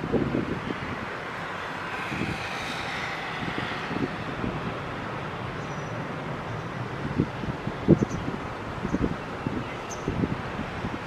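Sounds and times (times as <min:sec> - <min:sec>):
distant jet engines whining: 0:00.0 - 0:11.0
wind buffeting microphone: 0:00.0 - 0:11.0.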